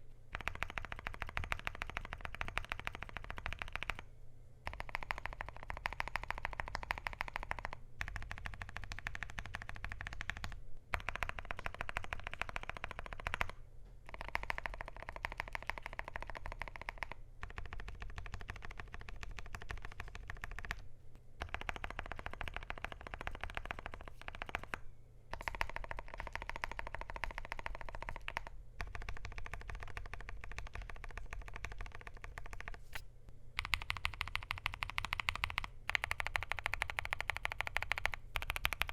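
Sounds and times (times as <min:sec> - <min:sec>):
mechanical keyboard typing: 0:00.3 - 0:04.0, 0:04.6 - 0:20.8, 0:21.4 - 0:32.9, 0:33.6 - 0:38.9.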